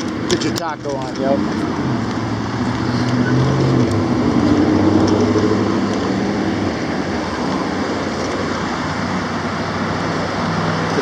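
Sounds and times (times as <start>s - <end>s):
street traffic roar: 0.0s - 11.0s
vehicle engine humming: 0.0s - 11.0s.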